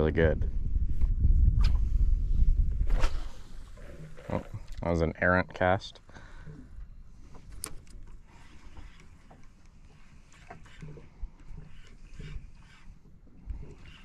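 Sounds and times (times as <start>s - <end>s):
low rumble of wind: 0.0s - 14.0s
water around a boat: 0.0s - 14.0s.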